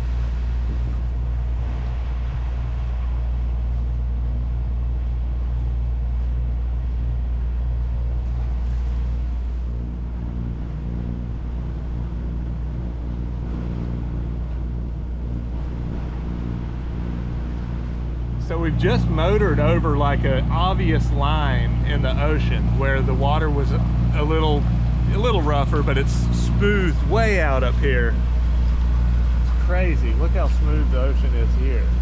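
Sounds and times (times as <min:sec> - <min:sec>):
boat diesel engine drone: 0:00.0 - 0:32.0.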